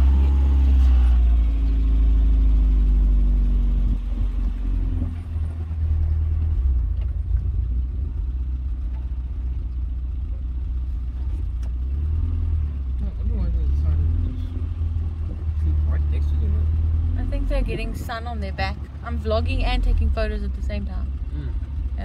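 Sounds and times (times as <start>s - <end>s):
car engine rumble: 0.0s - 22.0s
humming engine note: 0.0s - 22.0s.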